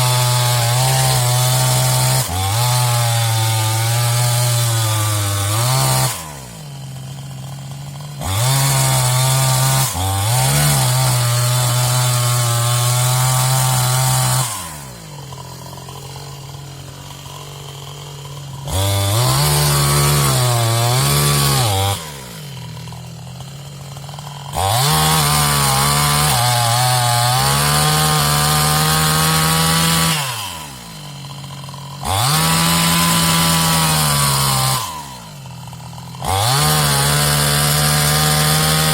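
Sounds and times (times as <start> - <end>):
chainsaw cutting wood: 0.0 - 38.9
chainsaw revving and idling: 0.0 - 38.9.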